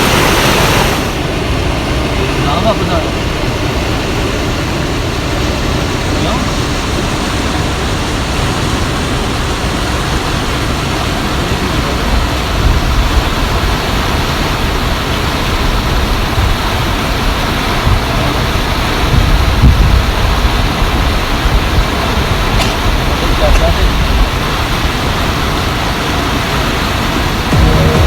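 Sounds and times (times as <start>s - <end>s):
deep water rumble: 0.0s - 28.0s
stream water rushing: 0.0s - 28.0s.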